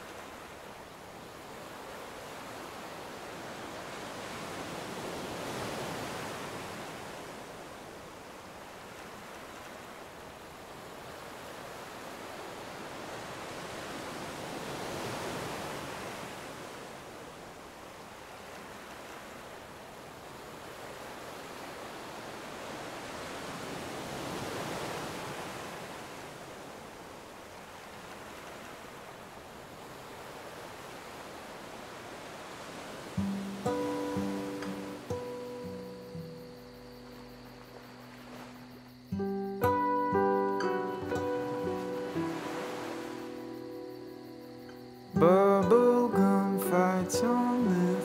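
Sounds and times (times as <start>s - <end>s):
sea waves washing on shore: 0.0s - 38.9s, 40.2s - 44.3s, 45.2s - 48.0s.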